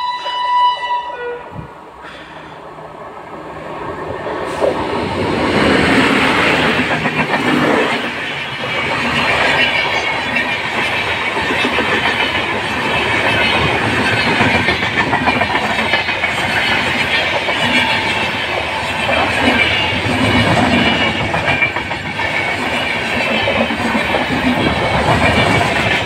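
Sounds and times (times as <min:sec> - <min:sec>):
train passing at speed: 0:00.0 - 0:26.0
wheels clattering over rails: 0:04.6 - 0:26.0.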